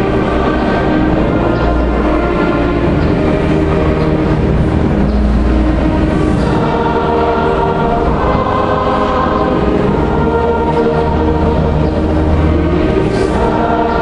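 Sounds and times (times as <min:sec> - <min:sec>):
church choir singing: 0:00.0 - 0:14.0
steady low rumble: 0:00.0 - 0:14.0.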